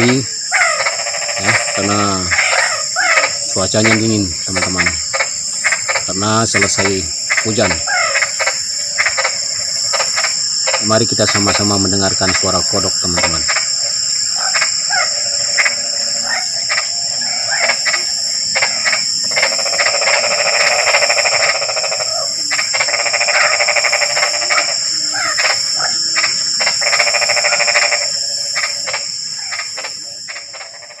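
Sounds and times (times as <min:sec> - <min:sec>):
frogs trilling and croaking: 0:00.0 - 0:31.0.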